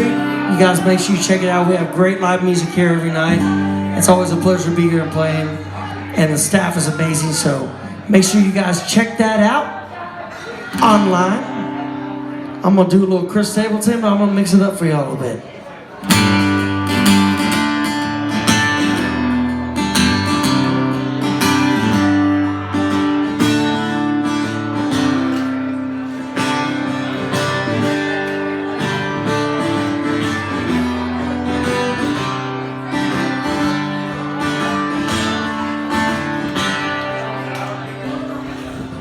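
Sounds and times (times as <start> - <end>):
acoustic guitar strumming: 0.0 - 15.0, 16.0 - 39.0.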